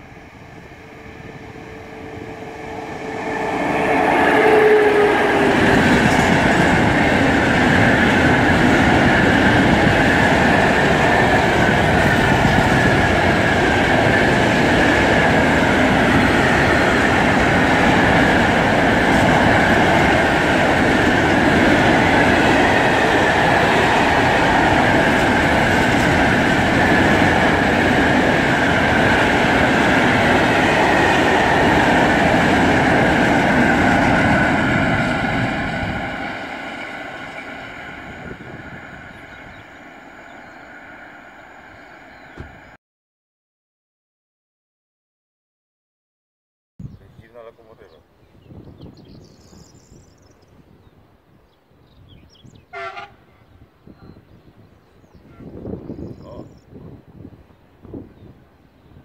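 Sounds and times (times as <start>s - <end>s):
electric locomotive whine: 0.0s - 42.8s, 52.7s - 58.6s.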